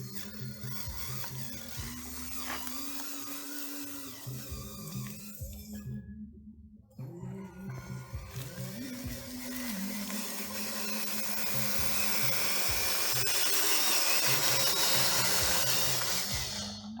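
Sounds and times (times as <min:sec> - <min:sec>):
small electric motor whirring: 0:00.0 - 0:05.9, 0:07.0 - 0:17.0
background music: 0:00.0 - 0:17.0.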